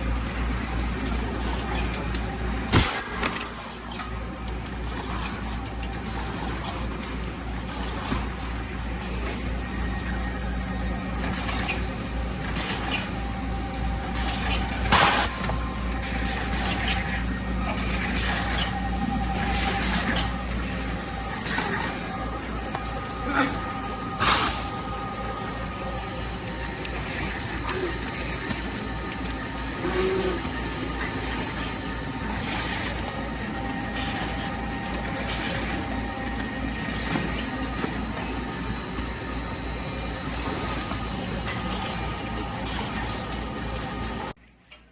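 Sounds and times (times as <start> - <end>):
machine humming: 0.0 - 44.4.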